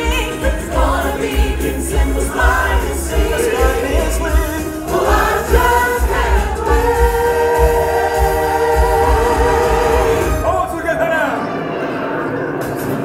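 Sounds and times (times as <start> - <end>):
choir singing: 0.0 - 10.5.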